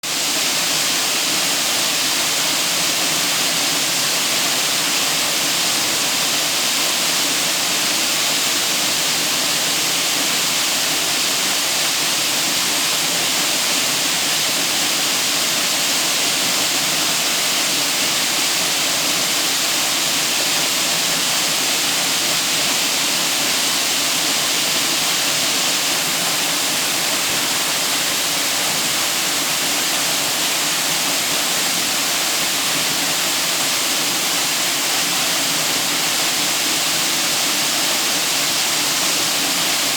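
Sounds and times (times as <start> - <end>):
waterfall rushing: 0.1 - 39.9.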